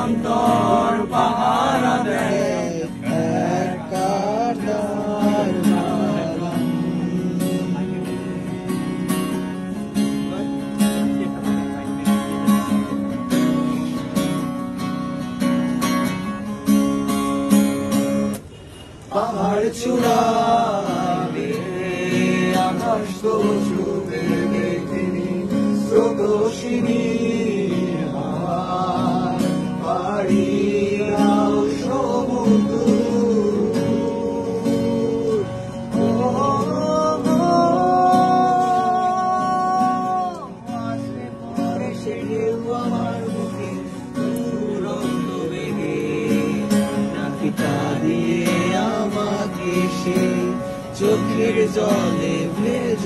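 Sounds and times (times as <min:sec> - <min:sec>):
man singing: 0:00.0 - 0:08.8, 0:19.1 - 0:53.0
acoustic guitar: 0:00.0 - 0:53.0.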